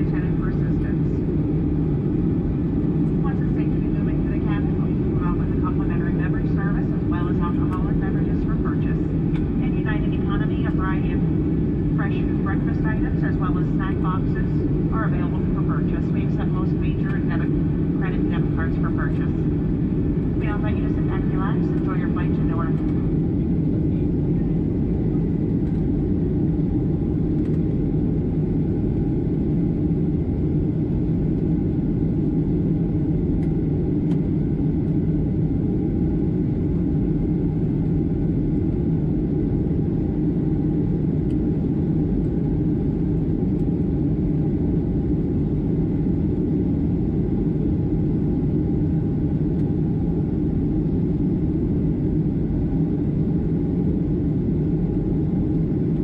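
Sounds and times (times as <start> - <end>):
aircraft cabin drone: 0.0 - 56.0
faint steady hum: 0.0 - 56.0.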